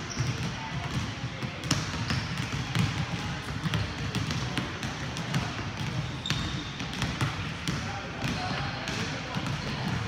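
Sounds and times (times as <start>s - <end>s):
basketballs bouncing on wooden floor: 0.0s - 10.0s.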